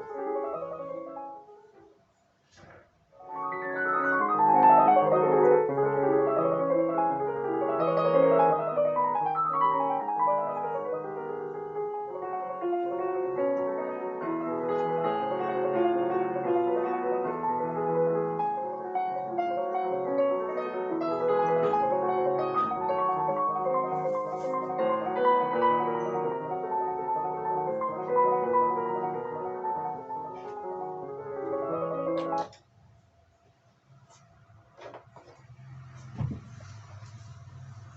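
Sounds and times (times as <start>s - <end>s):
digital piano playing: 0.0s - 1.9s, 3.2s - 32.6s.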